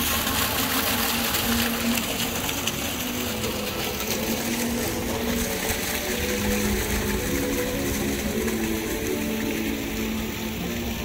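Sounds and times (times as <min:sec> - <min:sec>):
boat motor running: 0:00.0 - 0:11.0
water along a hull: 0:00.0 - 0:11.0.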